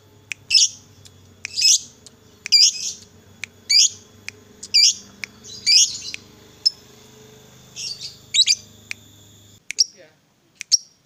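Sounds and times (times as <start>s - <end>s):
bird shrill chirping calls: 0.2s - 10.0s, 10.6s - 11.0s.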